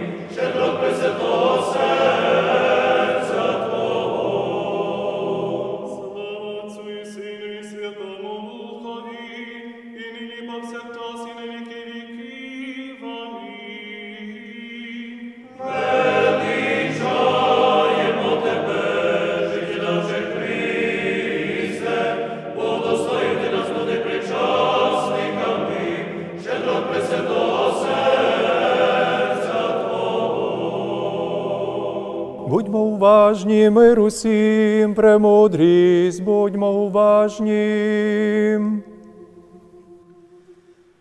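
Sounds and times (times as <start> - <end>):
person chanting: 0.0 - 40.9
choir singing chant: 0.0 - 41.0.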